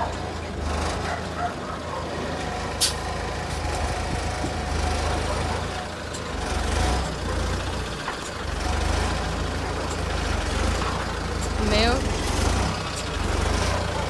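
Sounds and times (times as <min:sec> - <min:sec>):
heavy truck engine rumbling: 0:00.0 - 0:14.0.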